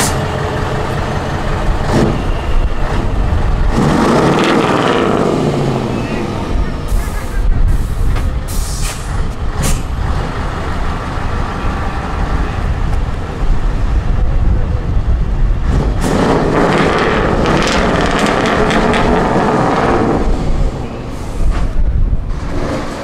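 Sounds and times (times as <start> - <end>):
truck engine pulling away: 0.0 - 23.0.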